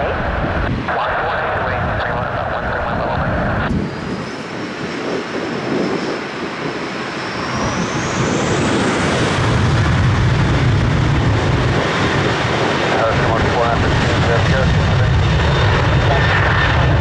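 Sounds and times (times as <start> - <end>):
deep rumble of jet thrust: 0.0 - 17.0
jet engines spooling up: 0.2 - 17.0.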